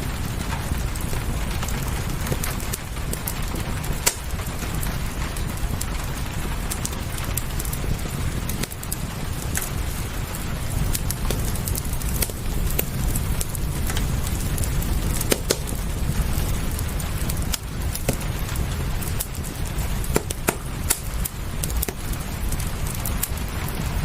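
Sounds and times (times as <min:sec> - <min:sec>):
fireplace crackling: 0:00.0 - 0:24.0
rain hissing: 0:00.0 - 0:24.0.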